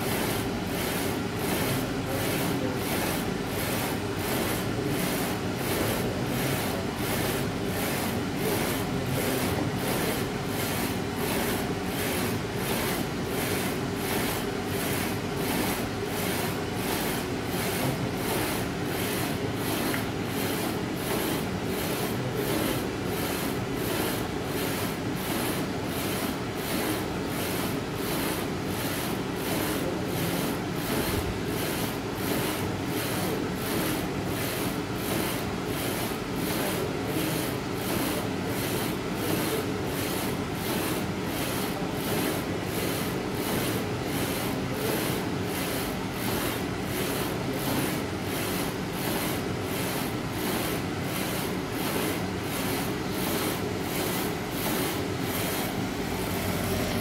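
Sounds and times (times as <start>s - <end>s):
printer humming and whirring: 0.0s - 57.0s.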